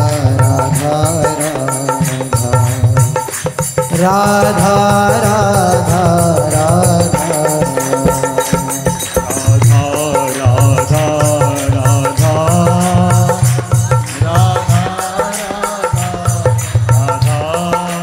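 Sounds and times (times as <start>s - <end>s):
devotional music with percussion: 0.0s - 18.0s.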